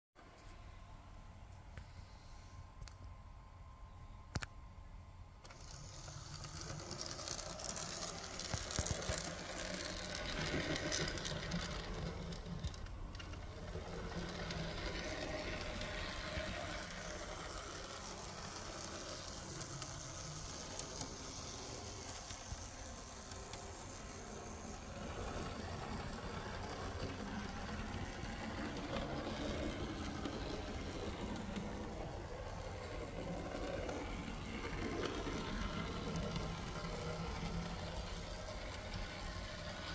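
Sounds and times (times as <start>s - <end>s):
model locomotive motor whirring: 5.4s - 39.9s.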